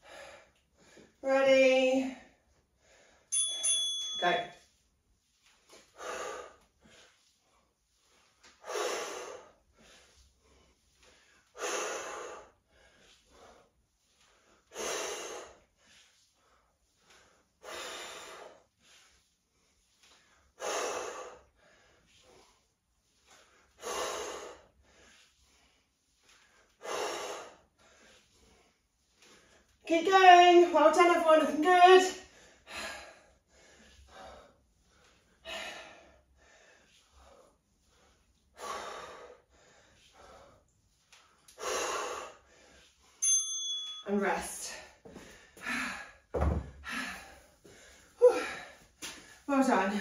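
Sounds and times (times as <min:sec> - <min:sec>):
person breathing hard: 0:00.0 - 0:01.2, 0:02.6 - 0:03.4, 0:05.7 - 0:29.8, 0:32.2 - 0:43.2, 0:44.8 - 0:49.5.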